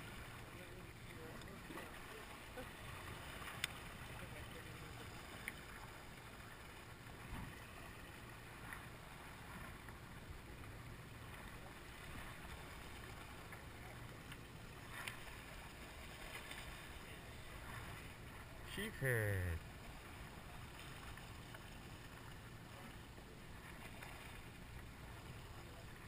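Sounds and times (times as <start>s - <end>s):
low steady hum: 0.0s - 26.0s
water sloshing: 0.0s - 26.0s.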